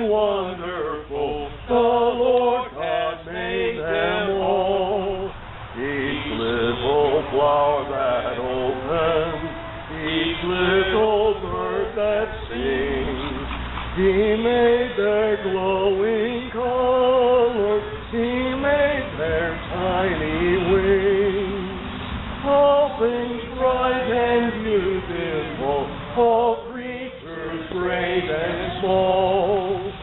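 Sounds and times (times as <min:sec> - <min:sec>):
congregation singing a hymn: 0:00.0 - 0:30.0.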